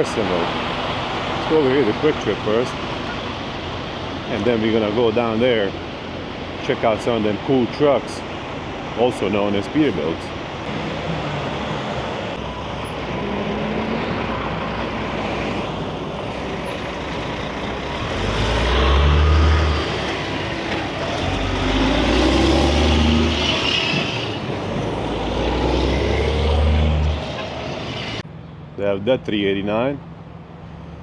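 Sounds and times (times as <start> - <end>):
road noise: 0.0 - 31.0
truck engine drone: 0.0 - 31.0.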